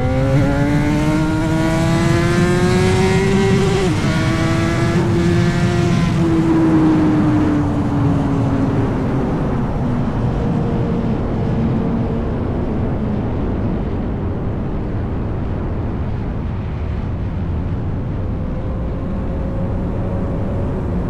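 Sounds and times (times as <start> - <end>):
motorcycle engine decelerating: 0.0 - 15.1, 17.9 - 21.0
heavy wind rush: 0.0 - 21.0.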